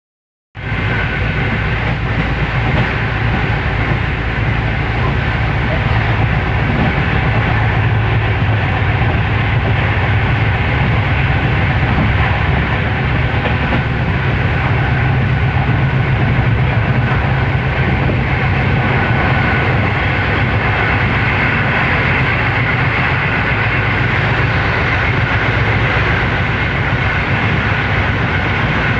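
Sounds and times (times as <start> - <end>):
train rumbling along track: 0.6 - 28.9.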